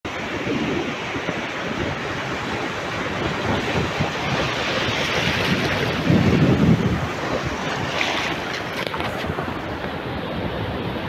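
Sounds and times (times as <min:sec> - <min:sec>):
sea surf on rocks: 0:00.1 - 0:11.0.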